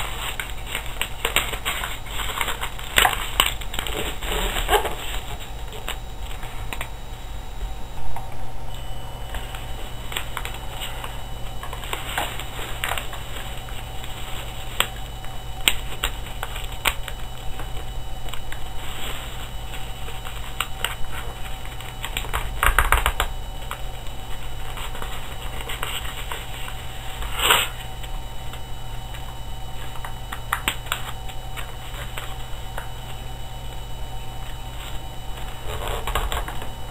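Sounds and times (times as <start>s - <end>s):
paper folding and crinkling: 0.0s - 7.0s, 9.2s - 36.9s
steady low hum: 0.0s - 36.9s.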